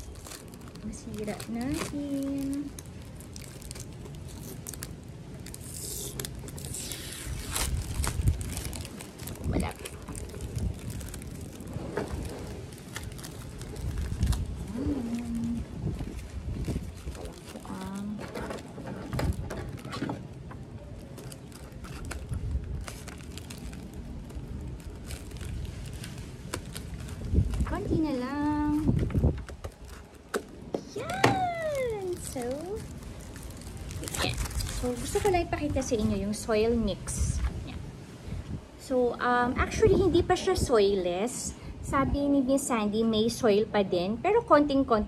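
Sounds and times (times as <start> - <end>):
plastic wrap crinkling: 0.0 - 37.6
plastic bag and newspaper rustling: 0.0 - 38.6
steady low rumble: 0.0 - 45.0.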